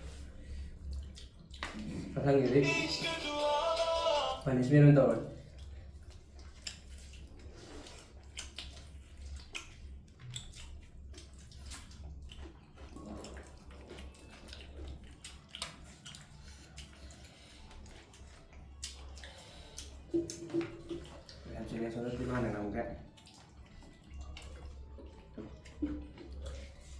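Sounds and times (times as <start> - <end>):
chewing and slurping: 0.0 - 2.3, 5.3 - 26.9.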